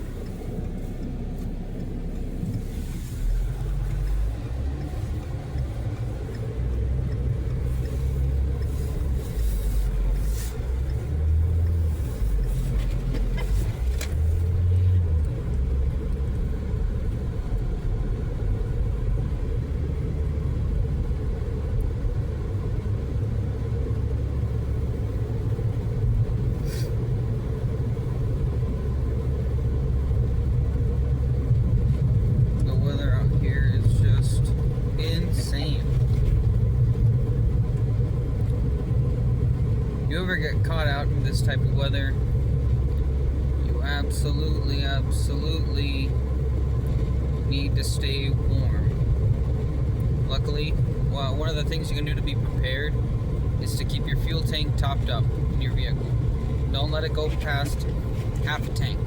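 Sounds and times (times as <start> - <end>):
car interior engine rumble: 0.0 - 59.0.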